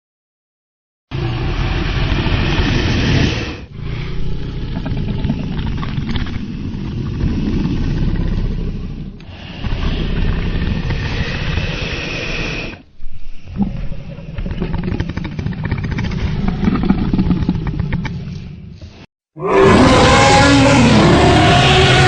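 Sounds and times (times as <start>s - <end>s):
low rumbling dragon growl: 1.1s - 18.8s, 19.4s - 22.0s.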